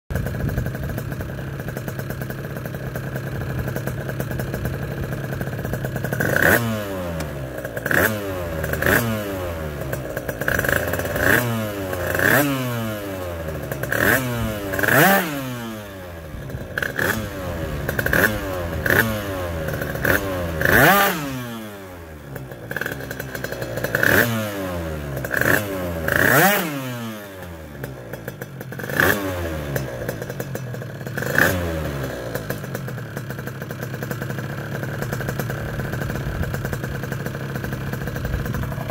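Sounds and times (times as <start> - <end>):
scooter engine idling and revving: 0.1 - 38.9.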